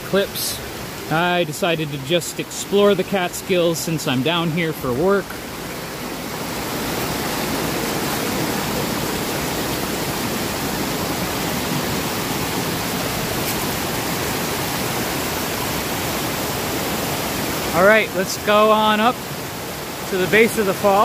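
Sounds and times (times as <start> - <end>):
waterfall and brook rushing: 0.0 - 21.0.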